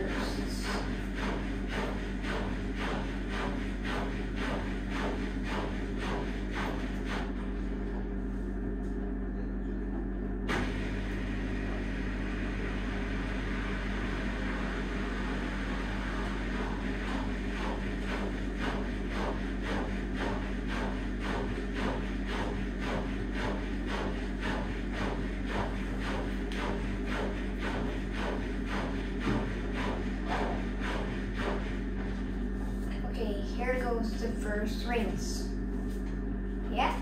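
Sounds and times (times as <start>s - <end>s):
washing machine running: 0.0s - 37.0s.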